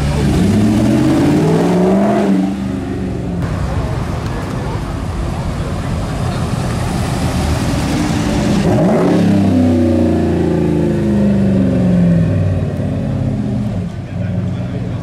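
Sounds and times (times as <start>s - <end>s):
pickup truck engine revving: 0.0s - 4.0s, 6.2s - 14.9s.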